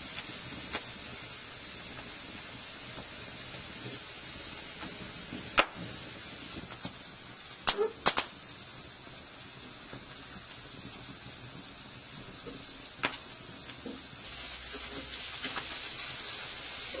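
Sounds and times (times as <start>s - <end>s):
burger sizzling on a grill: 0.0s - 17.0s
fire crackling pops: 0.0s - 17.0s.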